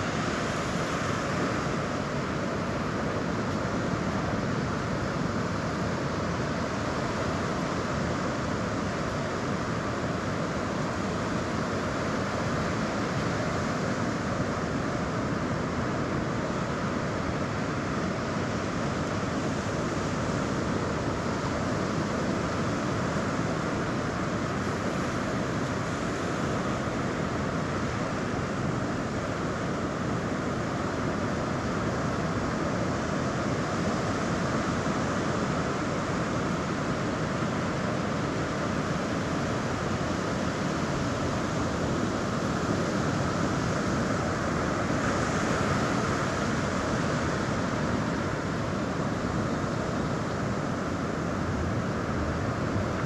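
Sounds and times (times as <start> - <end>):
sea surf washing onto beach: 0.0 - 53.0.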